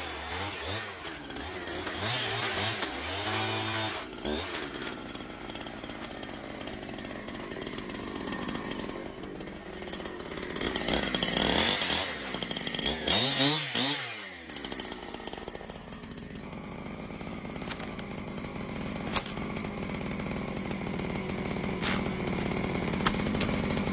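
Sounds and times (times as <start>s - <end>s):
chainsaw revving: 0.0s - 23.9s.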